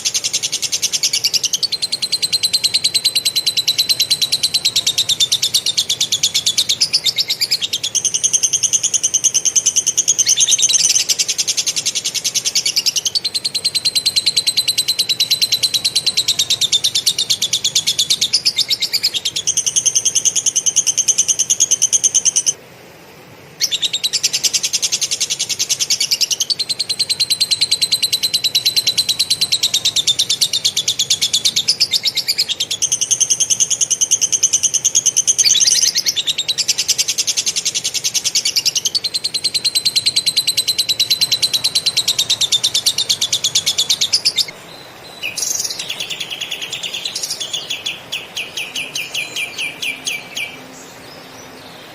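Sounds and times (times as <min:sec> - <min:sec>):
songbird trilling: 0:00.0 - 0:22.6, 0:23.5 - 0:51.9.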